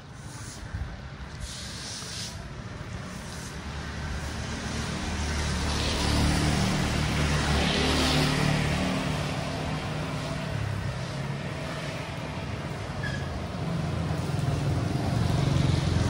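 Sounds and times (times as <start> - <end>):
tyres hissing on wet street: 0.0 - 16.0.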